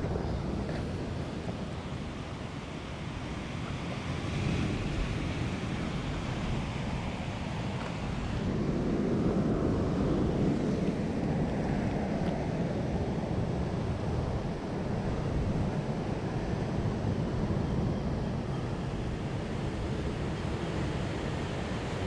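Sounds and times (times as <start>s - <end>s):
sea surf: 0.0s - 22.0s
wind on microphone: 0.0s - 22.0s.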